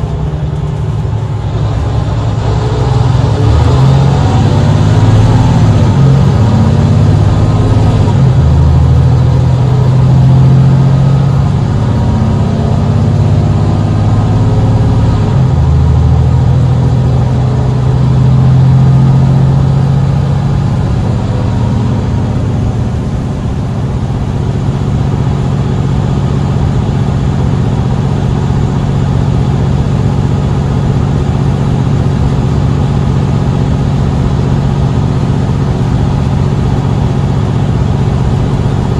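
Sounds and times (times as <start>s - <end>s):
bus diesel engine accelerating: 0.0s - 38.9s.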